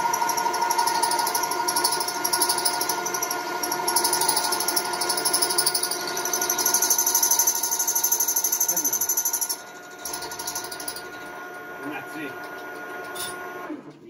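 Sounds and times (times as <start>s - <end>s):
milling machine spindle whine: 0.0s - 13.8s.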